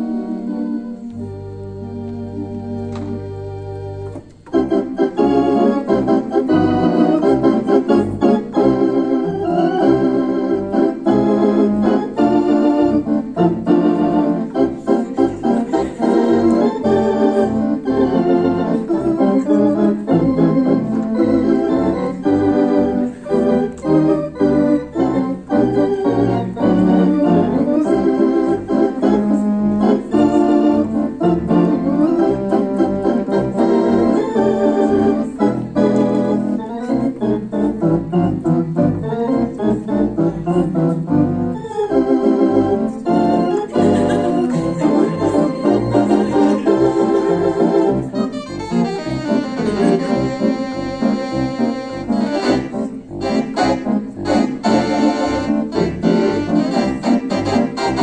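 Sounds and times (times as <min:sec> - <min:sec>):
theatre organ chords: 0:00.0 - 0:58.0.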